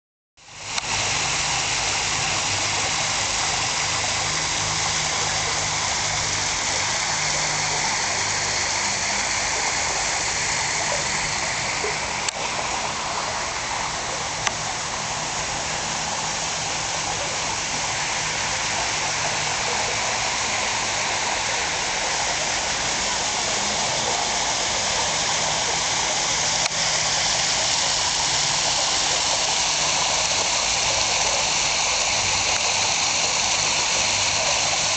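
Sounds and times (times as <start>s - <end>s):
waterfall splashing into pool: 0.4s - 34.9s.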